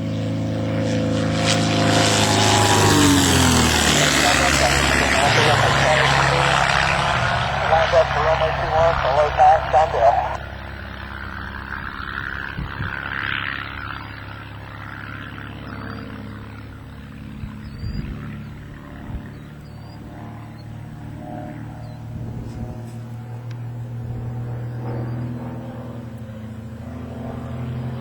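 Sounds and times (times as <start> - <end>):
propeller airplane droning: 0.0 - 28.0.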